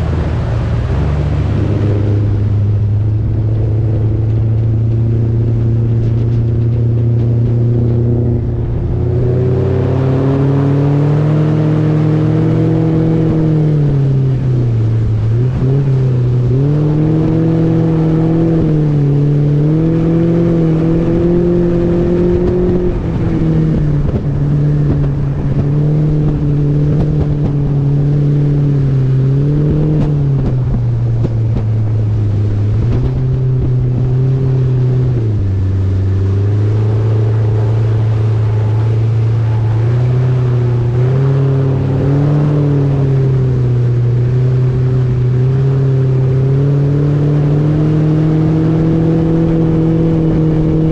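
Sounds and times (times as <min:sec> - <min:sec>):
outboard motor: 0:00.0 - 0:50.9
wind and water rushing: 0:00.0 - 0:50.9.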